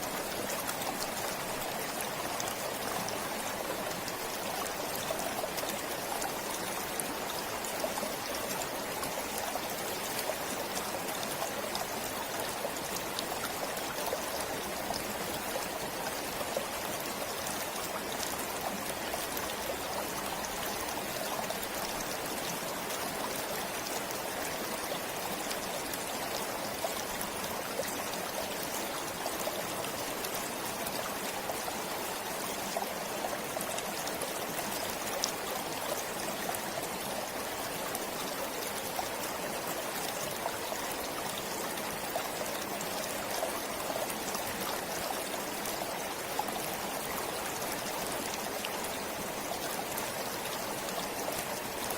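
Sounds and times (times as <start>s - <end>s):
stream flowing over stones: 0.0s - 51.9s.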